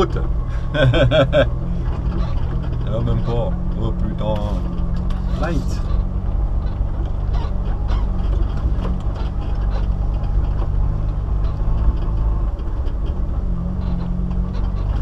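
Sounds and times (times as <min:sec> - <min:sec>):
vehicle engine at low revs: 0:00.0 - 0:15.0
faint knocks and rattles: 0:01.1 - 0:15.0.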